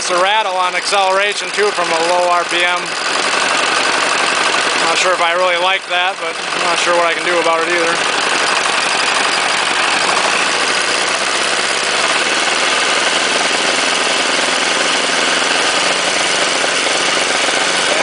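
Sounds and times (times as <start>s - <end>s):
diesel engine running at high revs: 0.0s - 18.0s.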